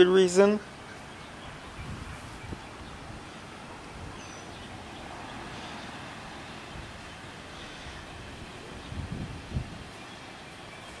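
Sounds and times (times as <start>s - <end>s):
outdoor background rush: 0.0s - 11.0s.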